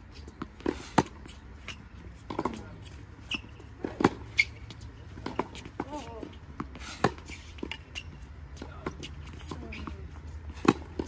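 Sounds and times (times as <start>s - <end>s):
tennis racket hitting ball: 0.4s - 11.0s.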